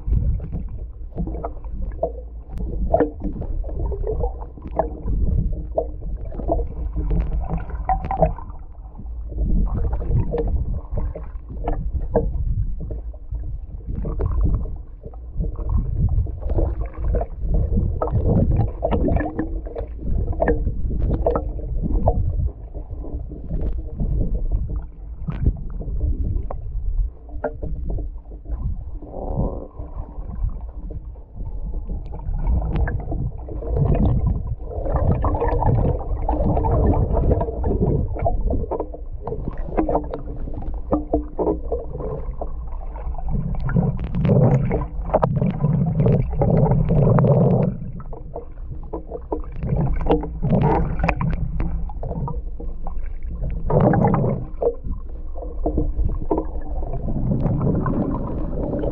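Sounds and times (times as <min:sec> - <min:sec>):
underwater low rumble: 0:00.0 - 0:58.9.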